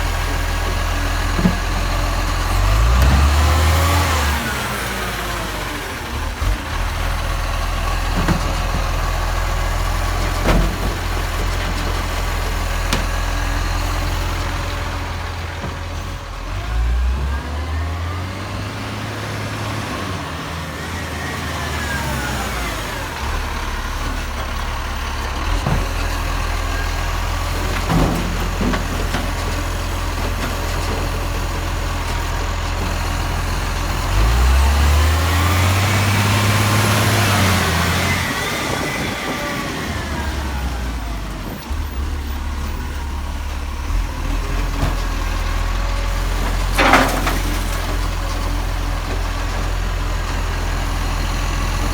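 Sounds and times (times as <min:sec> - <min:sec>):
garbage truck engine idling: 0:00.0 - 0:51.9.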